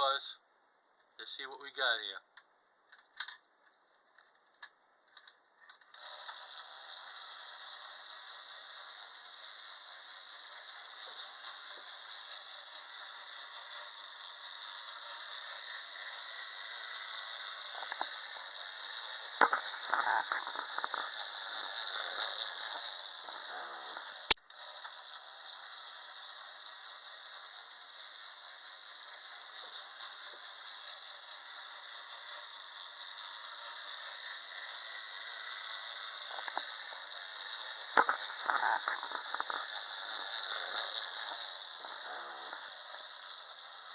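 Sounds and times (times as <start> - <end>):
model train running on track: 5.2 - 43.9.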